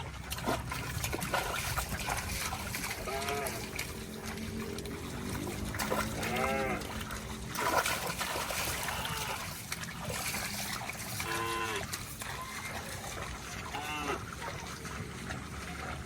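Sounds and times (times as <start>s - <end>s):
cattle splashing through water: 0.0s - 16.0s.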